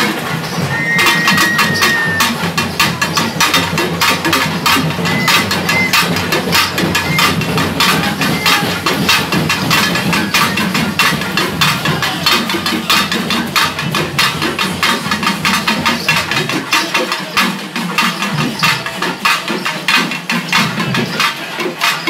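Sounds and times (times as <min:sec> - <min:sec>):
drums beating fast: 0:00.0 - 0:22.0.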